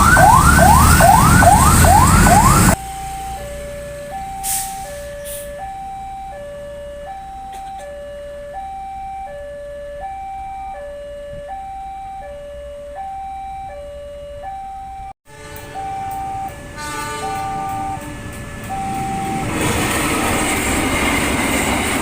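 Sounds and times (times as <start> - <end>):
two-tone level crossing alarm: 0.0 - 20.0.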